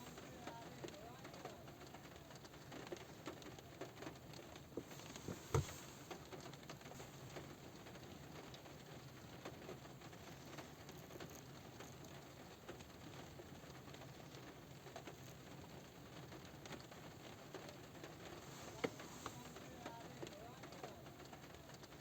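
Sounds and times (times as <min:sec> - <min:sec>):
rain tapping on car roof: 0:00.0 - 0:22.0.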